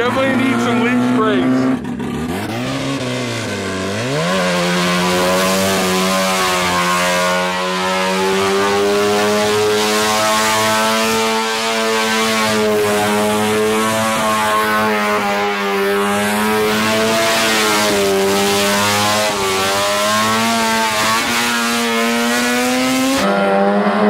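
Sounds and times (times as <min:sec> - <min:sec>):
rotary engine revving hard: 0:00.0 - 0:24.0.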